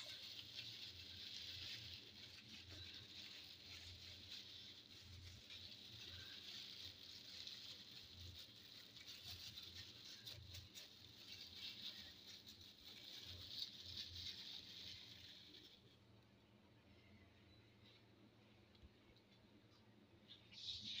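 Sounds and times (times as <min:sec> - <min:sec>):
plastic gloves rustling: 0:00.0 - 0:21.0.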